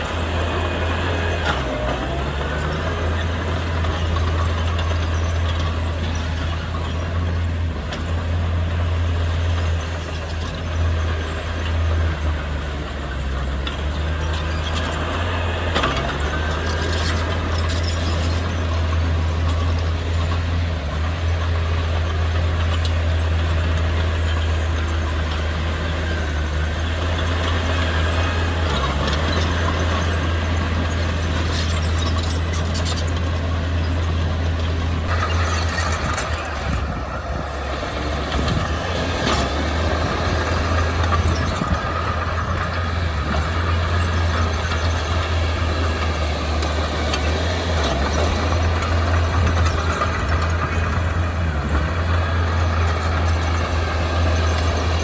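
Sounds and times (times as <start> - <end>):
heavy machinery diesel engine drone: 0.0 - 55.0.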